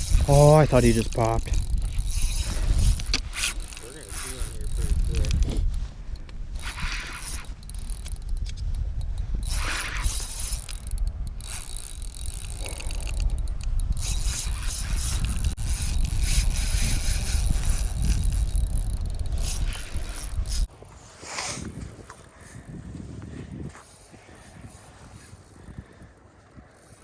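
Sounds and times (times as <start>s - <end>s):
fishing reel clicking and ratcheting: 0.0s - 20.7s, 22.0s - 23.1s, 23.7s - 27.0s.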